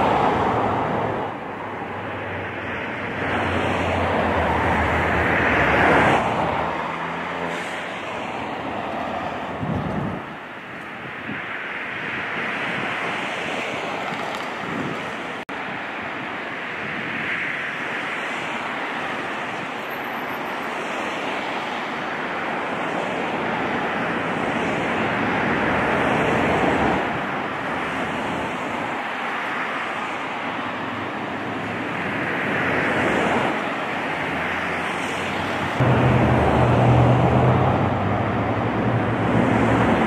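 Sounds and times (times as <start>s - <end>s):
traffic passing: 0.0s - 40.0s.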